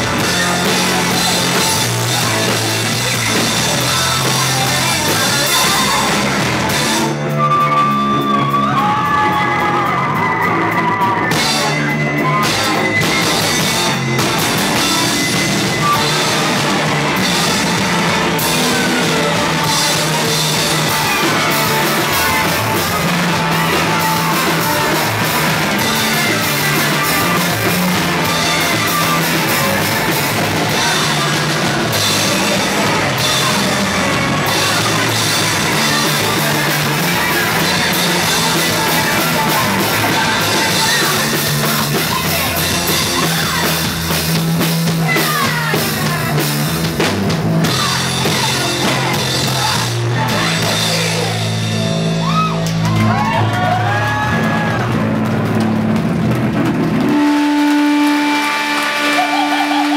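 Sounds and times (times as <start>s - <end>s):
person singing: 0.0s - 47.0s, 47.6s - 51.6s, 57.0s - 59.9s
electric guitars and bass: 0.0s - 59.9s
pounding drum kit: 0.0s - 59.9s
rock band playing live: 0.0s - 59.9s.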